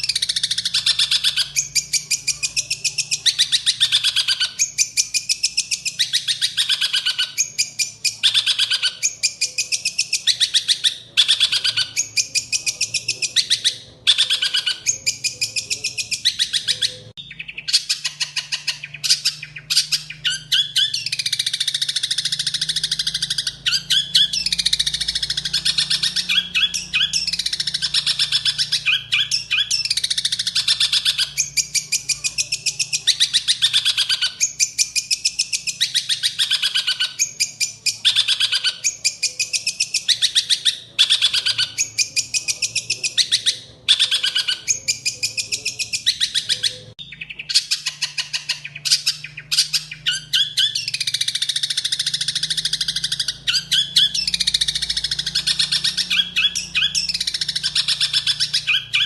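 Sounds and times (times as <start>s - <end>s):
songbird chattering song: 0.0s - 59.0s.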